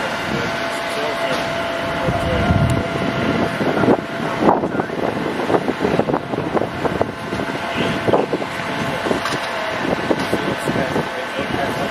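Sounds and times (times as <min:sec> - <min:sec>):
vehicle engines droning: 0:00.0 - 0:11.9
wind gusting on microphone: 0:01.4 - 0:11.9.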